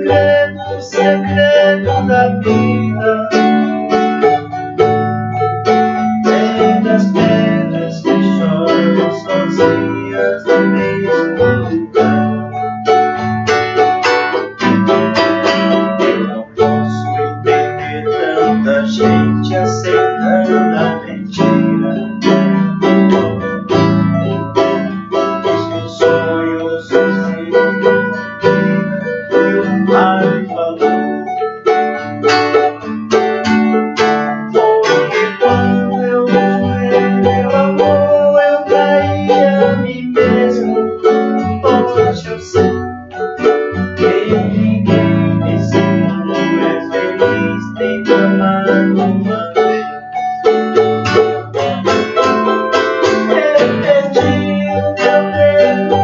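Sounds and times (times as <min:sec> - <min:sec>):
acoustic guitar chords: 0:00.0 - 0:56.0
banjo plucking: 0:00.0 - 0:56.0.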